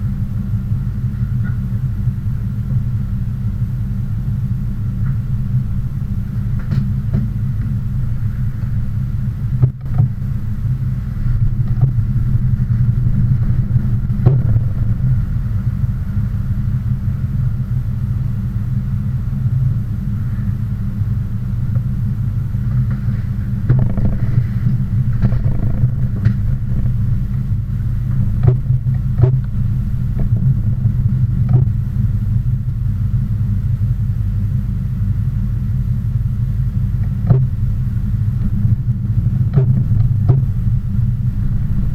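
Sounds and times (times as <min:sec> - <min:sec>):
engine low rumble: 0:00.0 - 0:41.9.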